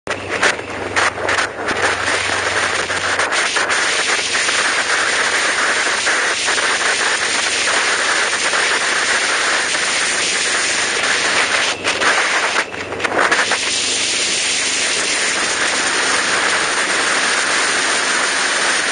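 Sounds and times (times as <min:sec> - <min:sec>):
low hum: 0:00.1 - 0:18.9
wind and road noise: 0:00.1 - 0:18.9.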